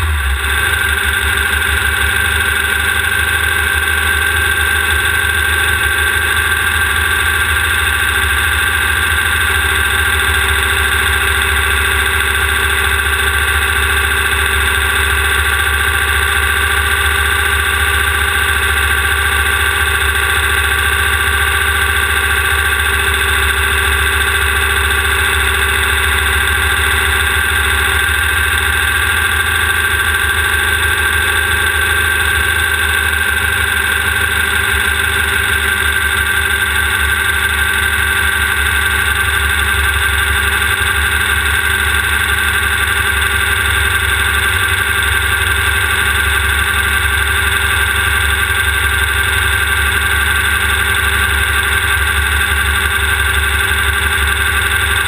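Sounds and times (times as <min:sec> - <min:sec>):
loud steady buggy engine: 0:00.0 - 0:55.0.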